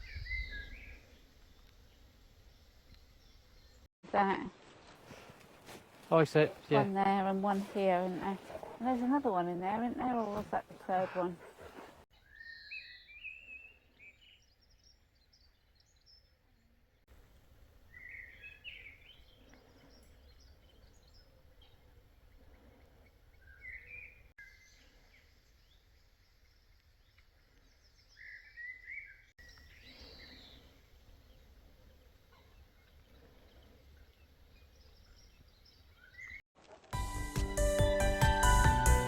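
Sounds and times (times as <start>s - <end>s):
wild birds chirping: 0.0s - 3.9s, 4.8s - 36.4s.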